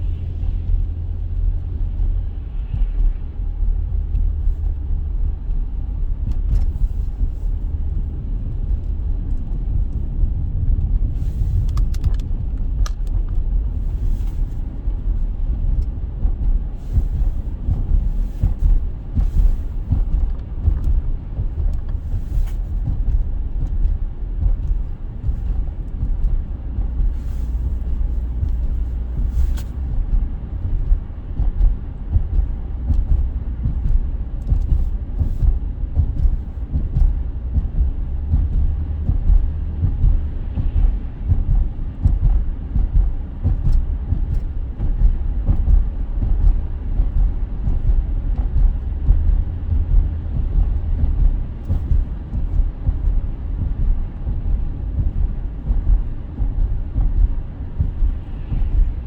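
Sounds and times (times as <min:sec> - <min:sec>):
loud low rumble: 0:00.0 - 0:59.0.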